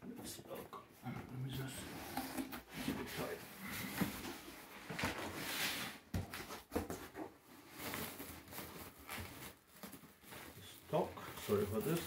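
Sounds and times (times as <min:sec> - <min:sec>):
plastic wrapping rustling: 0:01.5 - 0:12.0.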